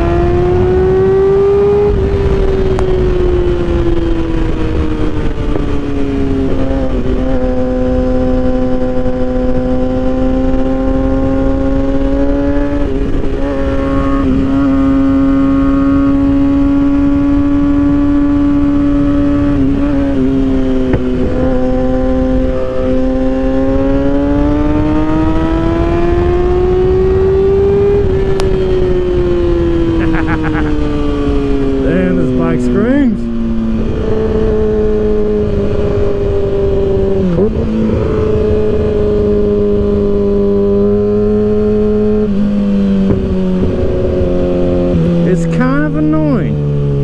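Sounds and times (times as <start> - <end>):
low wind rumble: 0.0 - 47.0
motorcycle engine while riding: 0.0 - 47.0.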